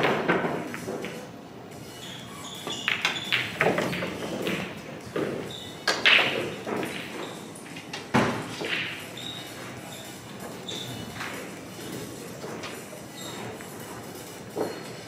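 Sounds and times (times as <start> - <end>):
pool balls clacking: 0.0 - 1.4, 2.6 - 15.0.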